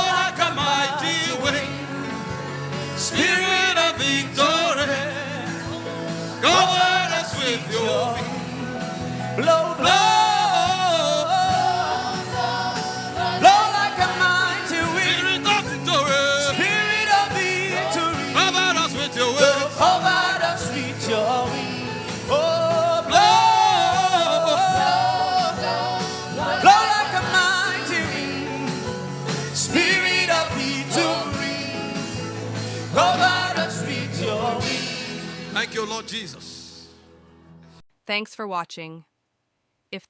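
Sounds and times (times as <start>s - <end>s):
voices singing gospel song: 0.0s - 36.4s.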